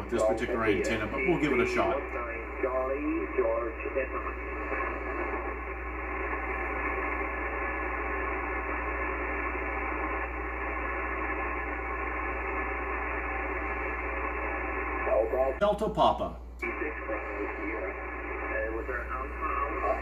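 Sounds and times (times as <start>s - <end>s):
faint steady tones: 0.0s - 15.6s, 16.5s - 20.0s
radio static hiss: 0.0s - 20.0s.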